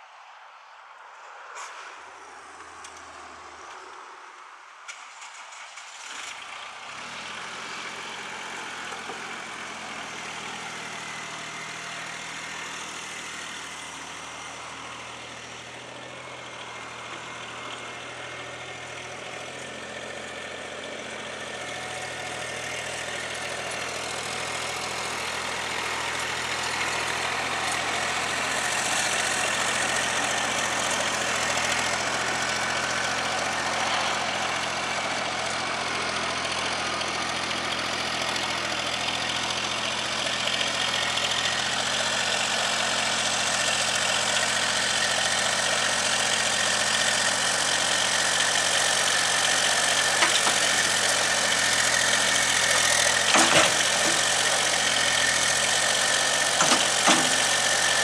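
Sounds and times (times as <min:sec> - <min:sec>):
engine idling: 0:05.3 - 0:58.0.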